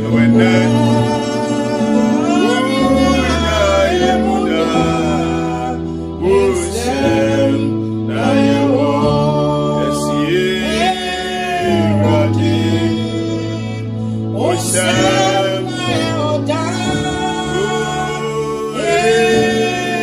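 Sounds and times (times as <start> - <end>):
gospel singing with accompaniment: 0.0 - 20.0.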